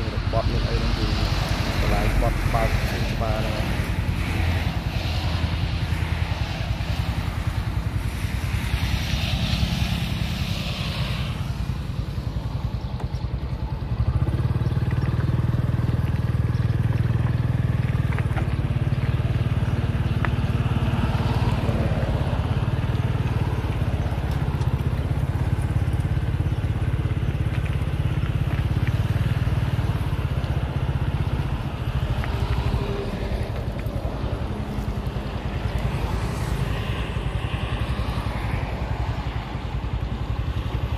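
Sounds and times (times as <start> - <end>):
highway traffic rumble: 0.0 - 40.9.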